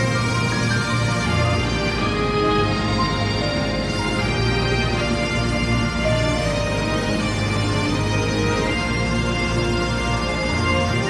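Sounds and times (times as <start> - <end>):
background music with held notes: 0.0 - 11.0
steady low bass: 0.0 - 11.0.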